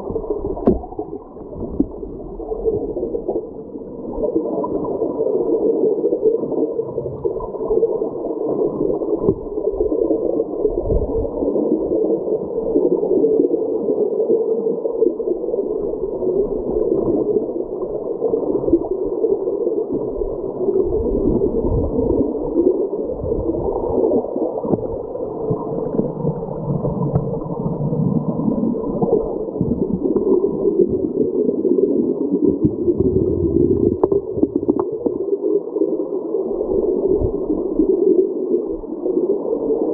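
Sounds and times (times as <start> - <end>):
underwater creek current rushing: 0.0 - 39.9.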